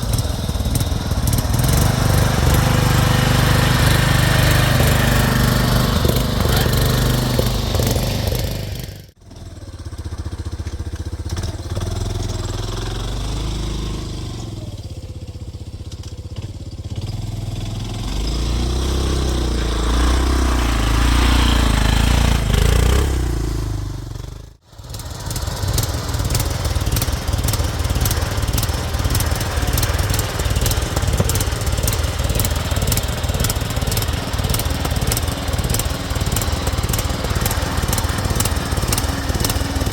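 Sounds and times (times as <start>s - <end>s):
small tractor engine running: 0.0s - 39.9s.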